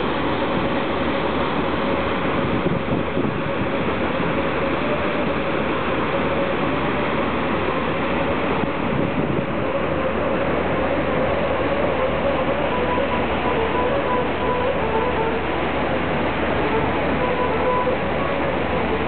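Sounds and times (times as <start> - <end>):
boat machinery hum: 0.0 - 19.0
paddle wheel churning water: 0.0 - 19.0.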